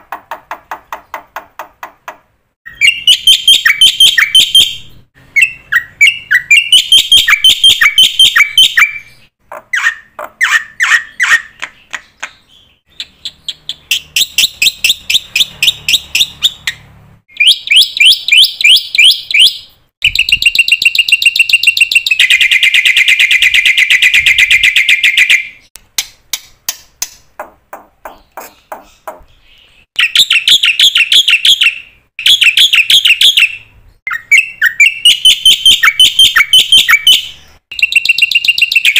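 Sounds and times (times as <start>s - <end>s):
bird singing trills: 2.7s - 25.7s, 28.1s - 38.9s.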